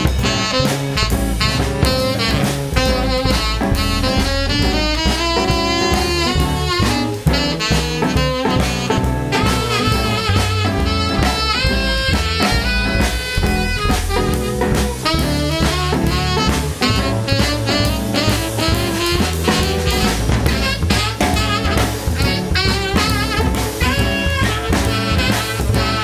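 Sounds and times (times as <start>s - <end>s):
bass and drum kit: 0.0s - 26.0s
saxophone solo: 0.0s - 26.0s.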